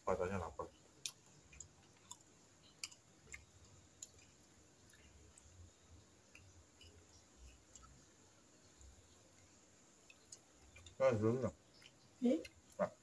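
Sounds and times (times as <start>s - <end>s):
eating by hand clicks and smacks: 0.7s - 8.2s, 8.8s - 13.0s.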